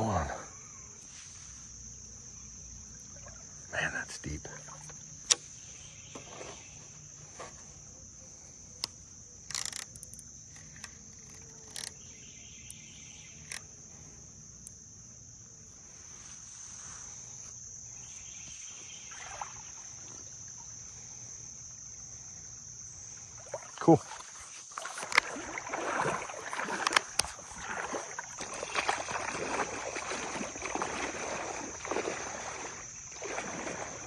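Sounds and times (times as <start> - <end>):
crickets chirring: 0.0 - 34.0.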